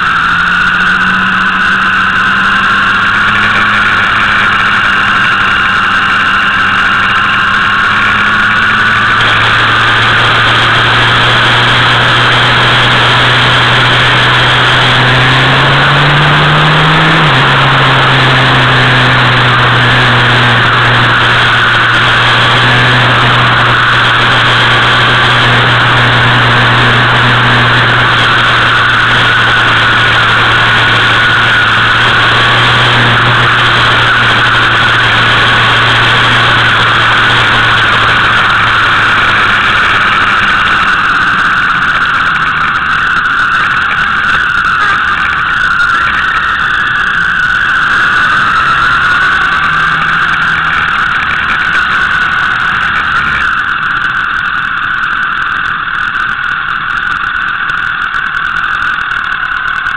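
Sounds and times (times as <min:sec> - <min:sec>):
heavy wind rush: 0:00.0 - 0:54.2
motorcycle engine running: 0:00.0 - 0:59.9.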